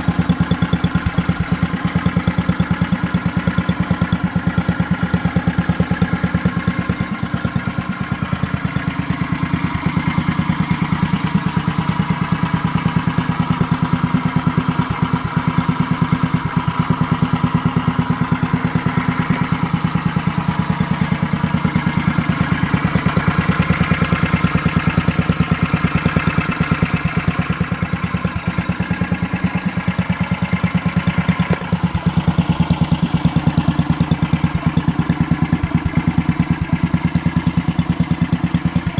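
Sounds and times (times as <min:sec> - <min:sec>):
small engine idling: 0:00.0 - 0:38.9.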